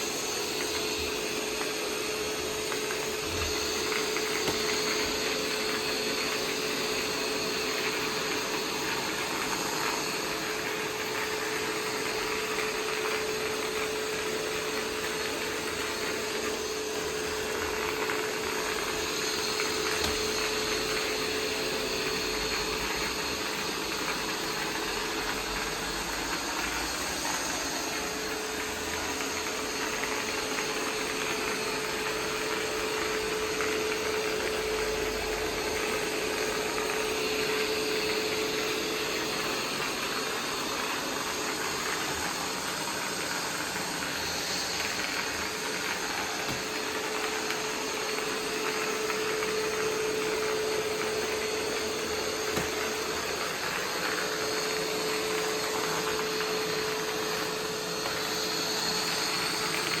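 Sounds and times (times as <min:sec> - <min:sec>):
robot vacuum whirring: 0:00.0 - 1:00.0.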